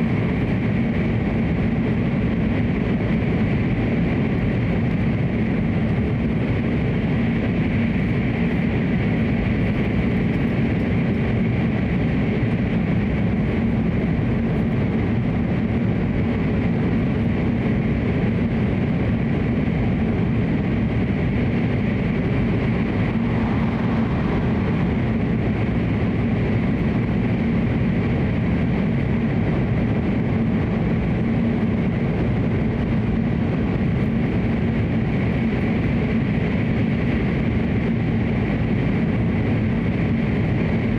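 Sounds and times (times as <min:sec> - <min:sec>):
train running from inside cabin: 0:00.0 - 0:40.9.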